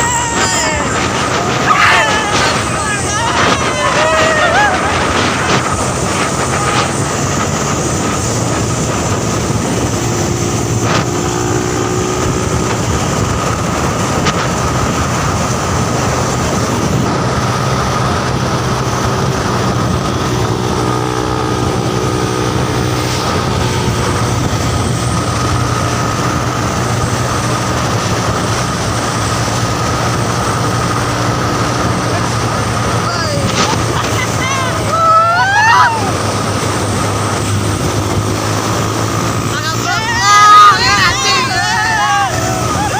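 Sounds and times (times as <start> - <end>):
road noise: 0.0 - 42.9
truck engine drone: 0.0 - 42.9.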